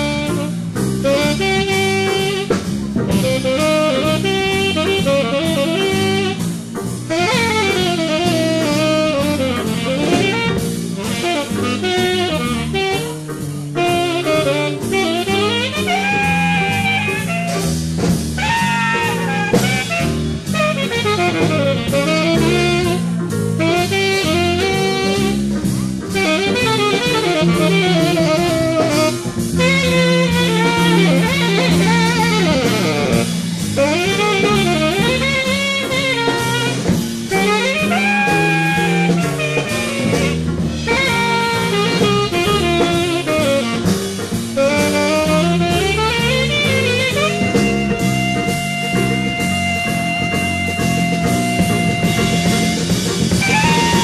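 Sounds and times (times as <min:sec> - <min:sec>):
big band playing blues: 0:00.0 - 0:54.0
saxophone melody: 0:00.0 - 0:54.0.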